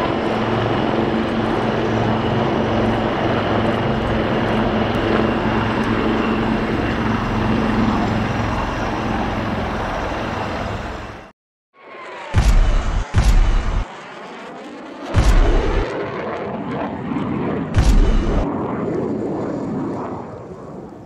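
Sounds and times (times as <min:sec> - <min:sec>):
helicopters flying past overhead: 0:00.0 - 0:21.0.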